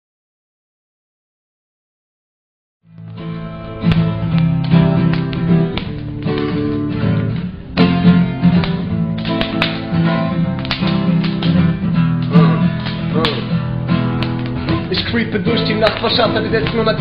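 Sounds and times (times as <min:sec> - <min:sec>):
acoustic guitar strumming chords: 0:02.9 - 0:17.0.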